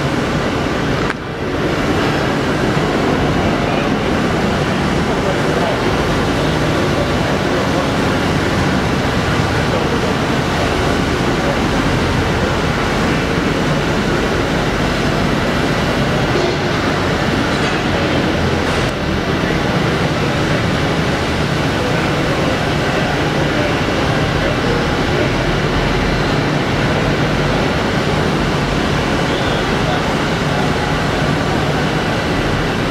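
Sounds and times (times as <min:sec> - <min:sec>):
machinery rumbling: 0:00.0 - 0:32.9.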